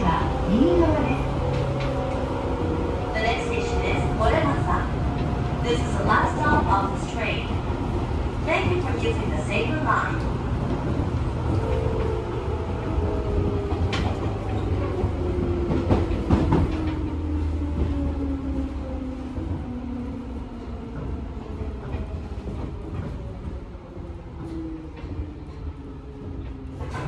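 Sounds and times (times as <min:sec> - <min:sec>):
train rumble on rails: 0:00.0 - 0:27.0
wheels clacking on rails: 0:00.0 - 0:27.0.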